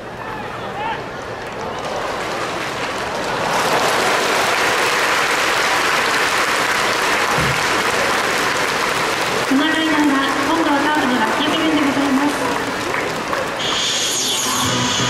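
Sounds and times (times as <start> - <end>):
stadium crowd applauding: 0.0 - 14.6.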